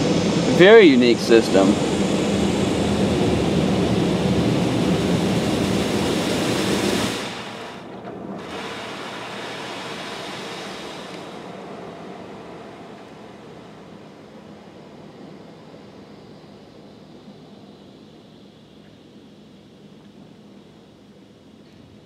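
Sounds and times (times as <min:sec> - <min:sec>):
water spray hissing on car: 0:00.0 - 0:21.2
quiet steady noise: 0:00.0 - 0:22.0.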